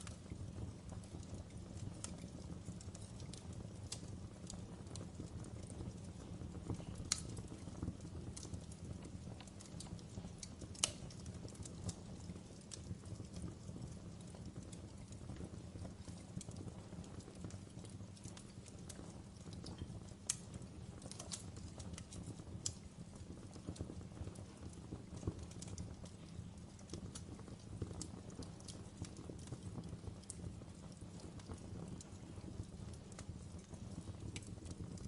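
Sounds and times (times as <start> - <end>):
flames rumbling: 0.0 - 35.0
logs crackling and popping: 0.0 - 35.0.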